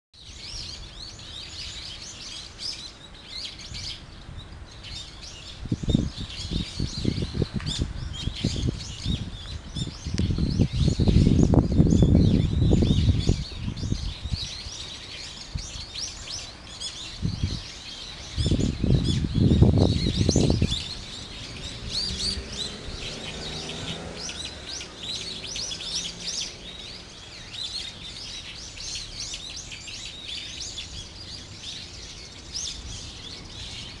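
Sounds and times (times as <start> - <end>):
songbirds chirping: 0.2 - 34.0.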